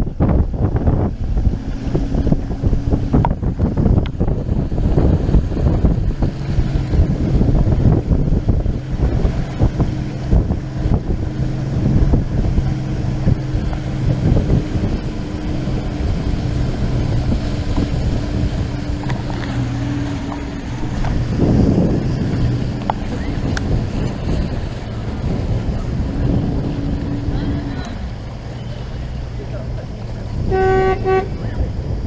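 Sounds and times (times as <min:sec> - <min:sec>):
hull thudding and splashing on waves: 0:00.0 - 0:32.0
motorboat engine running: 0:00.0 - 0:32.0
wind rush on microphone: 0:00.0 - 0:32.0.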